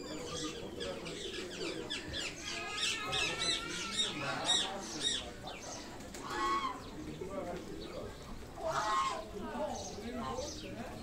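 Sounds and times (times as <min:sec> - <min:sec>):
birds chirping and squawking: 0:00.0 - 0:07.2, 0:07.9 - 0:10.7.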